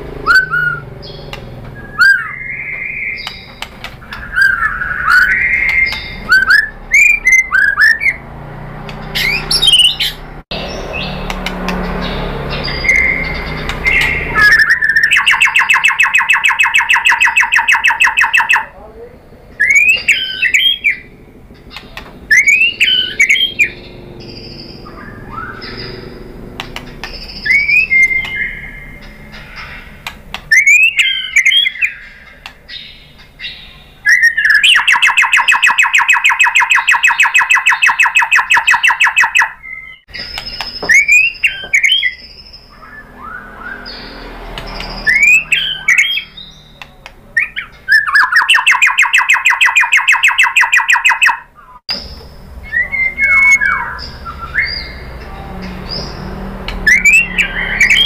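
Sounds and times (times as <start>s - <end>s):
bird stuttering trill: 0.0s - 8.3s, 9.1s - 18.8s, 19.6s - 46.8s, 47.4s - 55.1s, 55.8s - 58.0s
bird whistling song: 0.2s - 8.2s, 9.1s - 18.7s, 19.6s - 58.0s.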